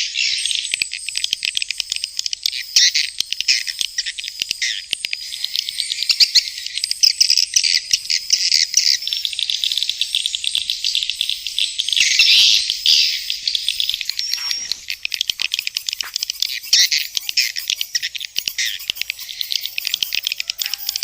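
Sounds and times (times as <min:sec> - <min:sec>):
swiftlets twittering: 0:01.0 - 0:21.0.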